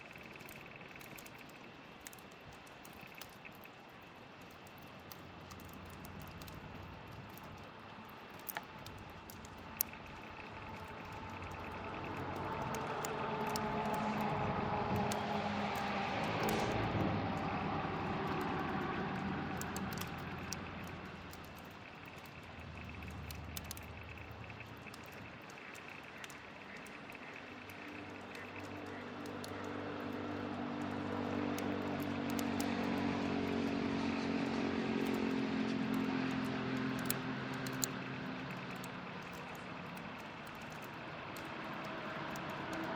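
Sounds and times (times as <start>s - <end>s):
wood fire crackles: 0.0s - 42.9s
distant engine drone: 0.1s - 42.9s.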